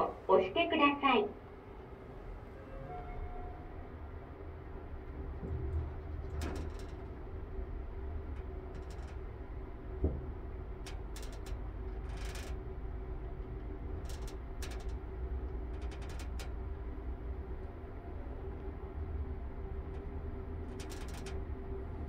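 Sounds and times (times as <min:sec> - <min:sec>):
elevator rumble and hum: 0:00.0 - 0:22.0.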